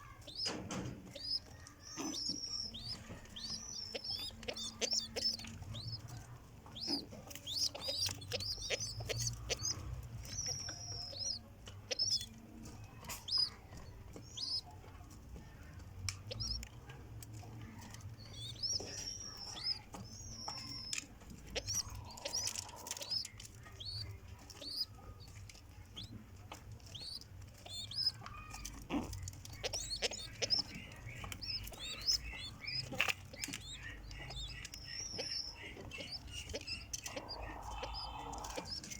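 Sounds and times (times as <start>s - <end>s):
pigeons chirping: 0.0s - 38.9s.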